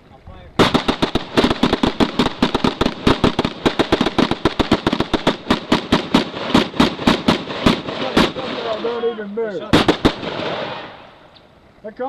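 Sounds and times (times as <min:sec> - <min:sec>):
rapid rifle gunfire: 0:00.6 - 0:09.0, 0:09.7 - 0:11.0.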